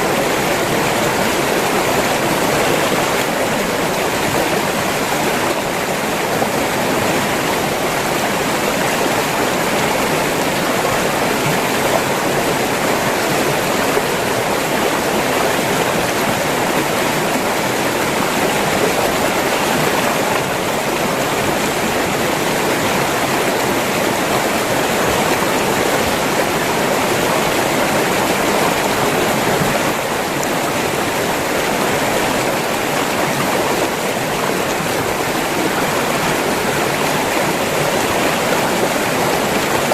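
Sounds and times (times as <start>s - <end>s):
river water rushing and splashing: 0.0s - 39.9s.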